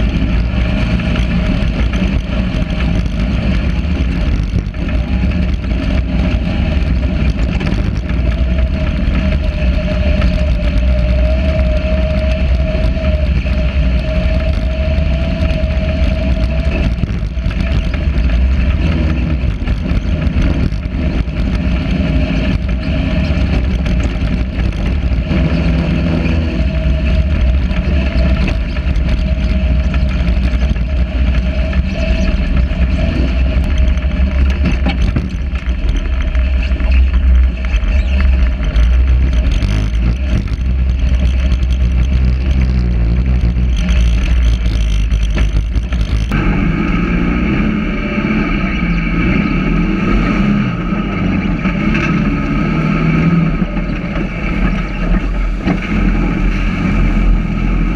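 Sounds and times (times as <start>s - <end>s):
dune buggy engine revving: 0.0s - 57.9s
wind rumble on microphone: 0.0s - 57.9s.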